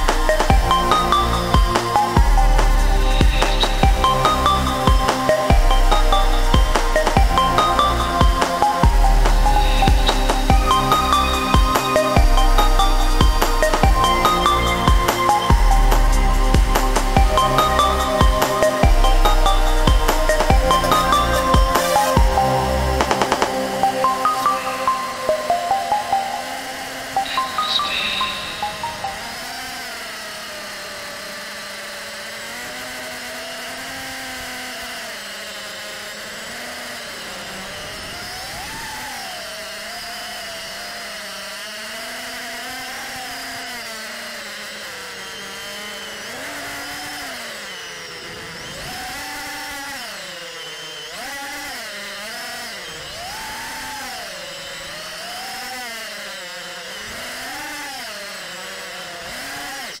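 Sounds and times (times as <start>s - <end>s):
drone motors and propellers whining: 0.0s - 60.0s.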